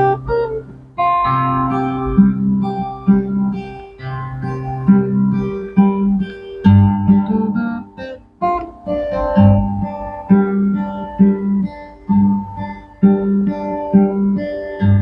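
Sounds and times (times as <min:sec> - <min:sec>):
fingerstyle guitar playing: 0:00.0 - 0:15.0.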